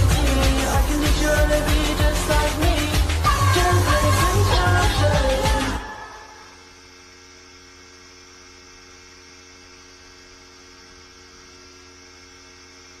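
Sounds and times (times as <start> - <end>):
steady electrical hum with hiss: 0.0 - 13.0.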